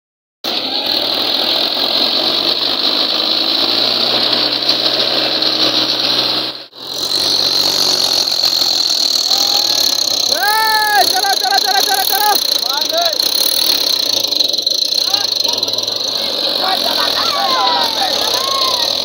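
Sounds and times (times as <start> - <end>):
tractor diesel engine labouring: 0.4 - 19.0.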